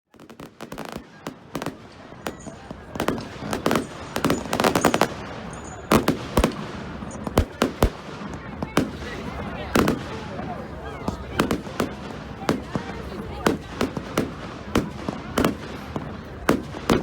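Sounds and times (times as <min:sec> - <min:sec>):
fireworks bangs and crackles: 0:00.1 - 0:17.0.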